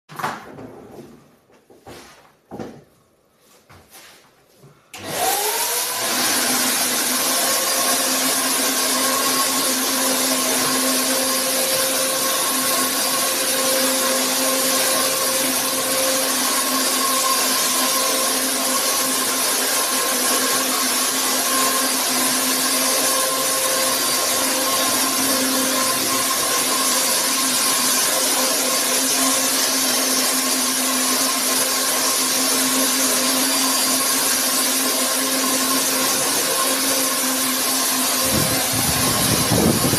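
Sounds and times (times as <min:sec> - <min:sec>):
insecticide fogger motor running: 0:05.1 - 0:39.9.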